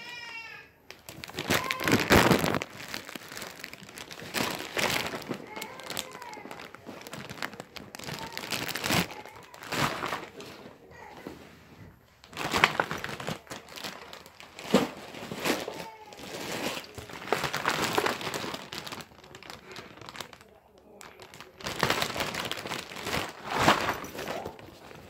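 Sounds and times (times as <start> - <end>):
close rustling and crinkling: 0.9 - 25.0.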